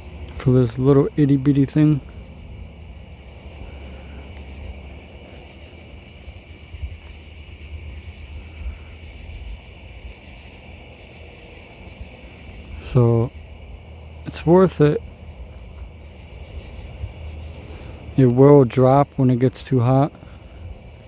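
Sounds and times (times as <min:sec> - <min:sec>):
crickets trilling: 0:00.0 - 0:21.0
high pulsing insect chirping: 0:00.0 - 0:21.0.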